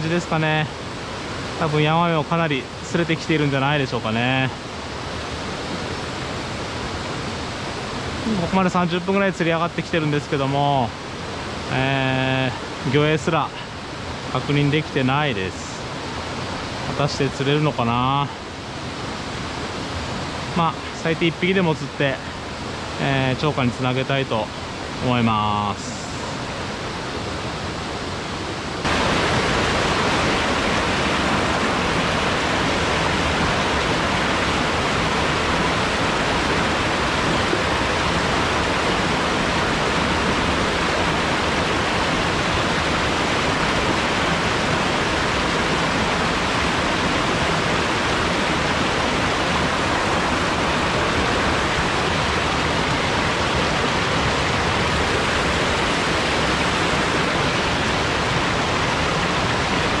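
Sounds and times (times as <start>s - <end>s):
water rushing over rocks: 0.0s - 60.0s.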